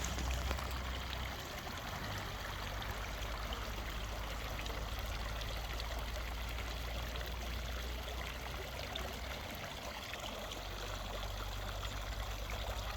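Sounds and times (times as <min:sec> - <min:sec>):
fountain water trickling: 0:00.0 - 0:12.9.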